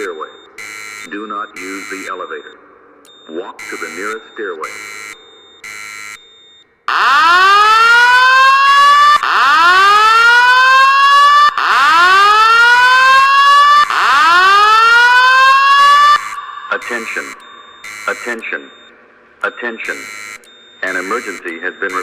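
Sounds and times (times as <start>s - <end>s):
fire alarm whoop tone: 0.0s - 22.0s.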